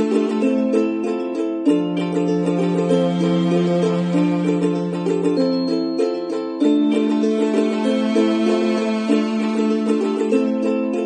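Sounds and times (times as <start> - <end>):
plucked-string tune: 0.0 - 11.0.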